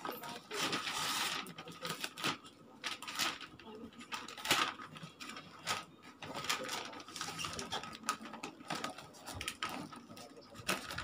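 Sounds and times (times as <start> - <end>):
wrapping paper tearing and rustling: 0.0 - 11.0.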